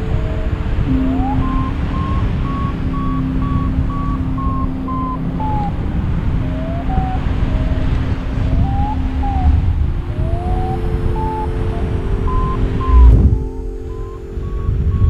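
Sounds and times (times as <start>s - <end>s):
steady low hum: 0.0s - 15.0s
variometer beeping: 0.0s - 15.0s
wind noise on microphone: 0.0s - 15.0s.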